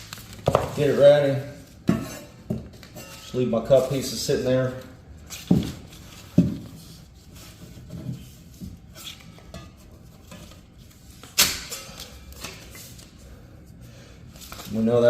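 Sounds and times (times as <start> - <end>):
drywall tape rustling: 0.0 - 15.0.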